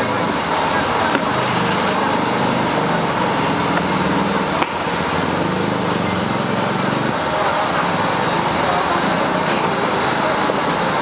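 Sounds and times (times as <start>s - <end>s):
engine running nearby: 0.0s - 11.0s
street traffic noise: 0.0s - 11.0s.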